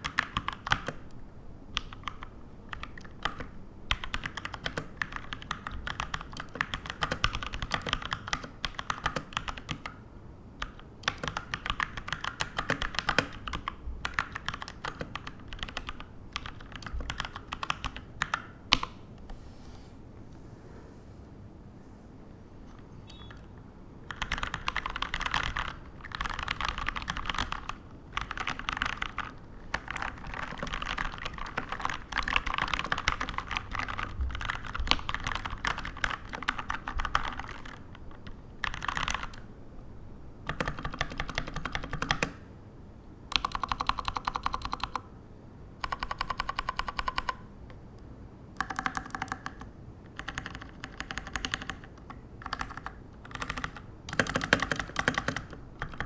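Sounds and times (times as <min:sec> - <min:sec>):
mechanical keyboard typing: 0:00.0 - 0:10.0, 0:10.6 - 0:19.0, 0:22.7 - 0:39.5, 0:40.4 - 0:42.5, 0:43.3 - 0:45.1, 0:45.8 - 0:47.8, 0:48.5 - 0:56.0.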